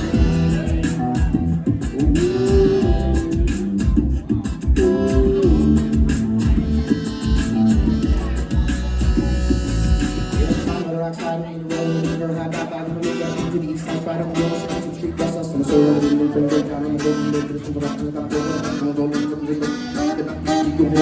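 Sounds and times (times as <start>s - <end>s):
electric guitar: 0.0s - 21.0s
live rock band playing: 0.0s - 21.0s.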